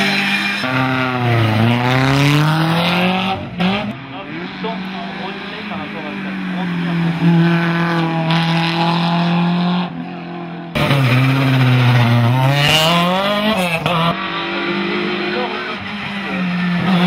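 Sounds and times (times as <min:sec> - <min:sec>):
race car engine at high revs: 0:00.0 - 0:17.0
race car passing and accelerating: 0:00.0 - 0:17.0.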